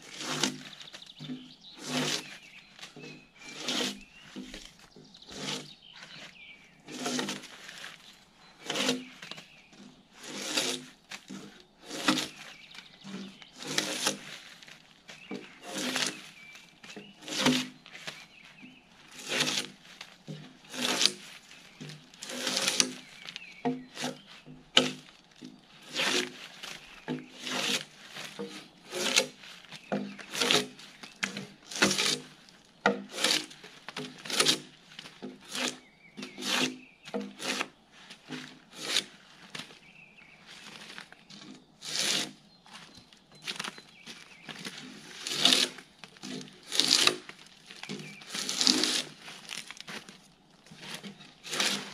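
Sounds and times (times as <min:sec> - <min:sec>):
drawknife scraping bark: 0:00.0 - 0:18.4, 0:19.0 - 0:39.8, 0:41.4 - 0:43.0, 0:44.5 - 0:50.0, 0:50.7 - 0:51.9.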